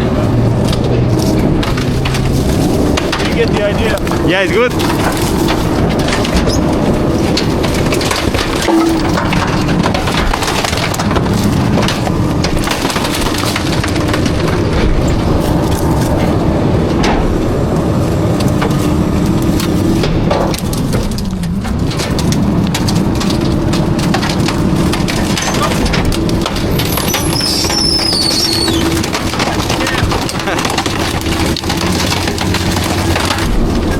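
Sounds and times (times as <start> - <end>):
garbage truck engine tone: 0.0 - 33.9
refuse crunching as compacted: 0.0 - 33.9.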